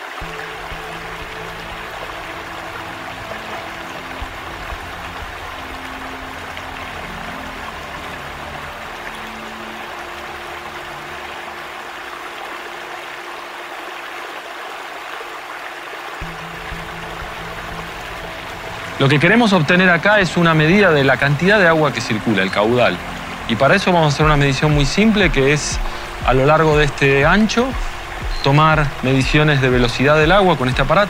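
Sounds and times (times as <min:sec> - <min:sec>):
fast-flowing stream: 0:00.0 - 0:31.0
low sustained music notes: 0:00.0 - 0:31.0.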